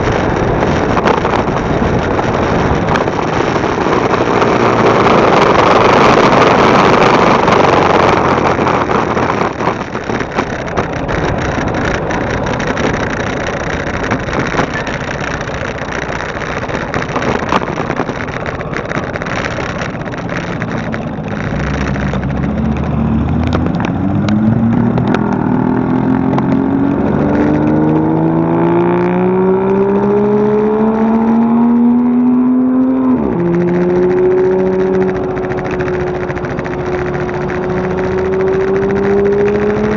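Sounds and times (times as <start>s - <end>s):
motorcycle engine accelerating: 0.0s - 39.9s
wind on microphone: 0.0s - 39.9s.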